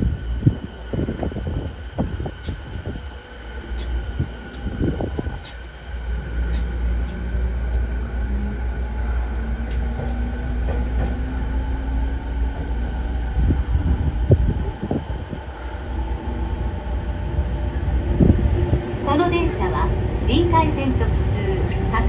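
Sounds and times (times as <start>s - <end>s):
train motor whine: 0.0s - 19.0s
train low rumble: 0.0s - 22.0s.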